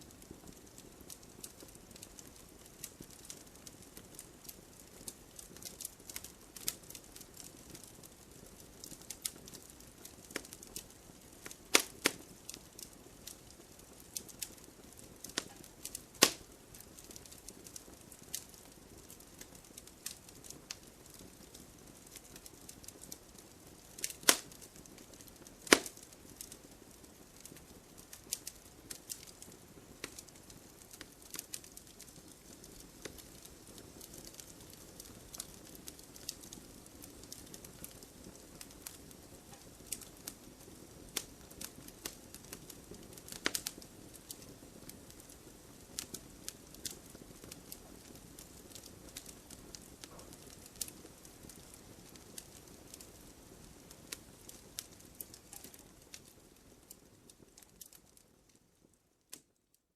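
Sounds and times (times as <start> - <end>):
firewood crackling and popping: 0.0 - 59.8.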